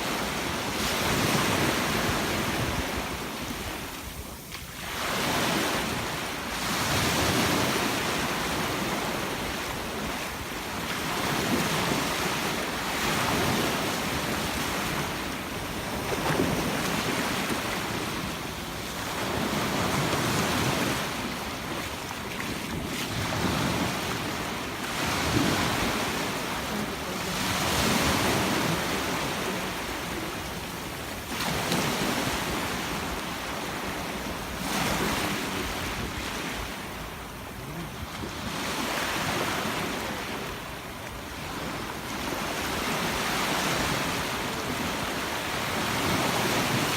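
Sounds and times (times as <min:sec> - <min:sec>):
surf breaking on beach: 0:00.0 - 0:46.9.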